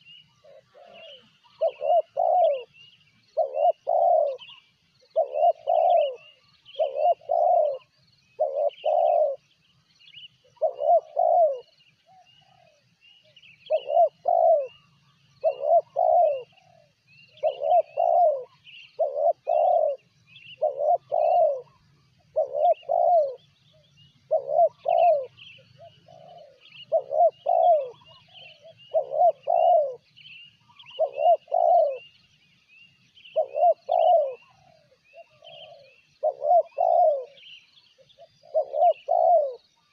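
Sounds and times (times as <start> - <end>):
dove cooing: 0.0 - 9.5, 10.4 - 32.3, 33.2 - 39.9
small birds chirping: 0.0 - 39.9.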